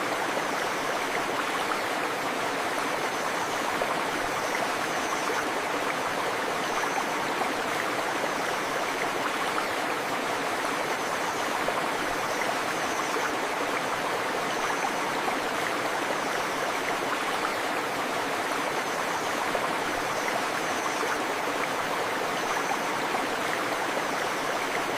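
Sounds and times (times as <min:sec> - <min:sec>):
rain: 0:00.0 - 0:24.9
river flowing: 0:00.0 - 0:24.9.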